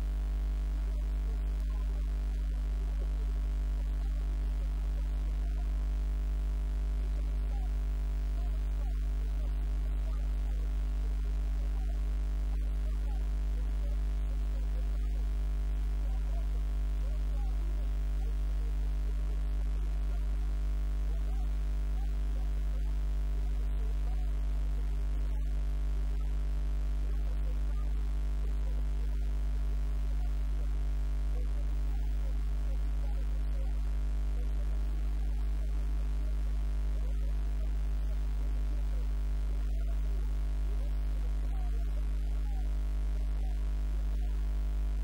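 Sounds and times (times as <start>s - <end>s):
electrical mains hum: 0.0s - 45.0s.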